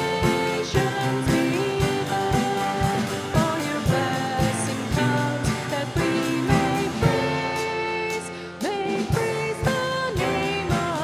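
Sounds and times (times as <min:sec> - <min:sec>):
live band music: 0:00.0 - 0:11.0
person singing: 0:00.0 - 0:11.0
steady drum beat: 0:00.0 - 0:11.0.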